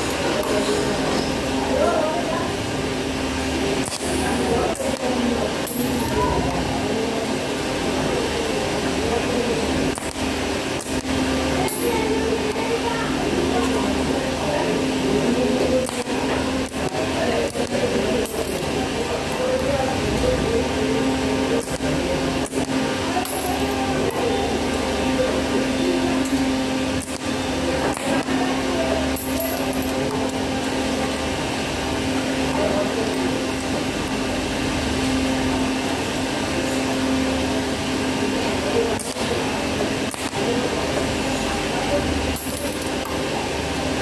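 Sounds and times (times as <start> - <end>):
arc welder humming and buzzing: 0.0 - 44.0.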